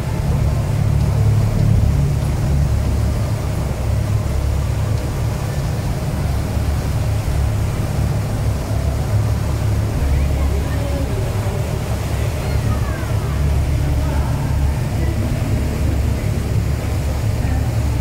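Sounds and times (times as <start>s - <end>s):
water rushing in wake: 0.0s - 18.0s
yacht engines rumbling: 0.0s - 18.0s.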